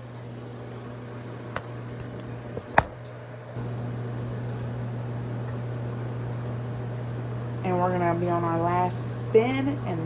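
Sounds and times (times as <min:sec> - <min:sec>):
washing machine humming: 0:00.0 - 0:10.0.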